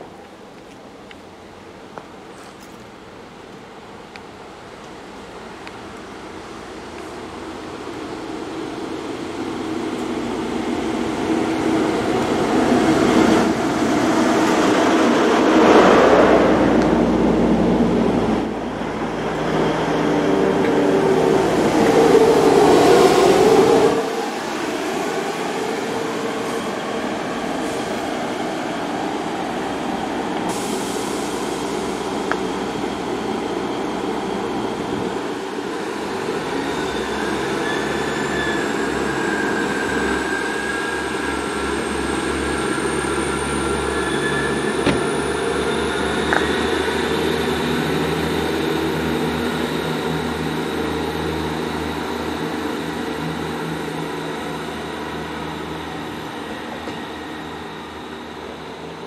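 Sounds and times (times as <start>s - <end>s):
high train whine: 0.0s - 59.0s
train rumbling: 4.5s - 59.0s.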